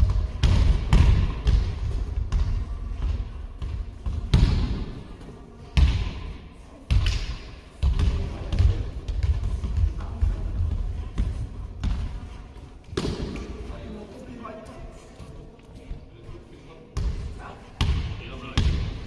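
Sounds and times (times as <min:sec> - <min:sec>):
basketballs bouncing in a hall: 0:00.0 - 0:19.0.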